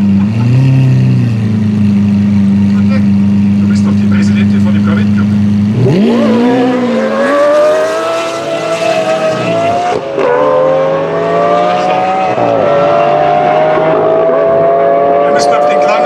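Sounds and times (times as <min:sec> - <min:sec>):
sports car engine accelerating: 0:00.0 - 0:16.0.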